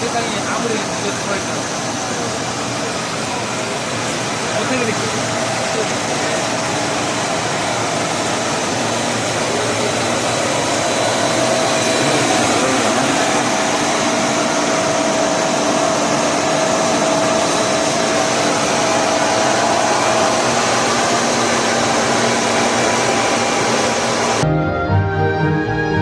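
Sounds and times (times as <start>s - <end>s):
incinerator rushing air and combustion: 0.8s - 24.4s.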